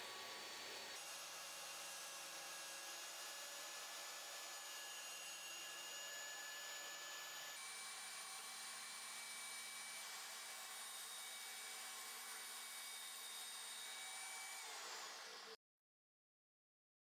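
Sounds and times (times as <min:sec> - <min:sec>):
table saw cutting wood: 0:00.0 - 0:15.6.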